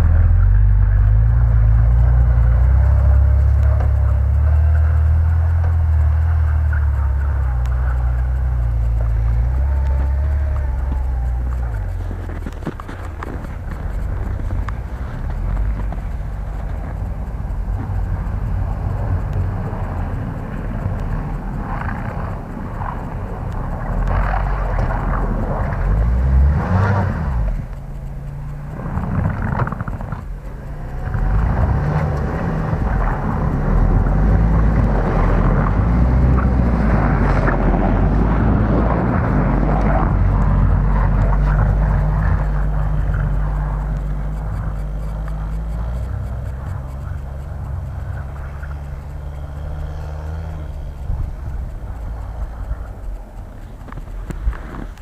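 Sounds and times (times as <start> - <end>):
tyres churning snow: 0.0 - 55.0
vehicle engine revving: 0.0 - 55.0.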